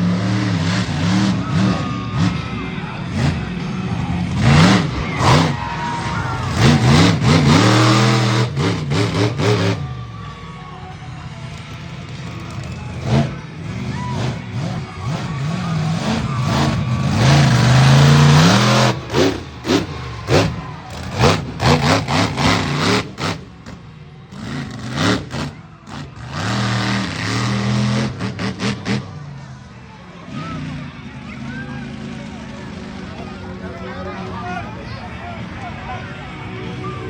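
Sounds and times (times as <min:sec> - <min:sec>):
monster truck engine revving: 0:00.0 - 0:37.0.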